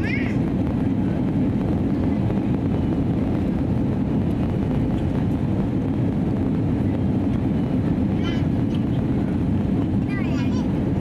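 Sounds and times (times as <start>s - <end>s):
aircraft cabin engine roar: 0.0s - 11.0s.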